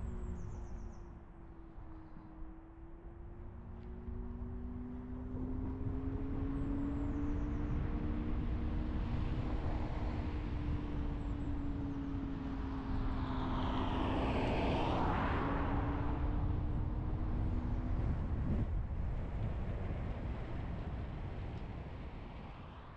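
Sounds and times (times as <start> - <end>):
road rumble: 0.0 - 22.9.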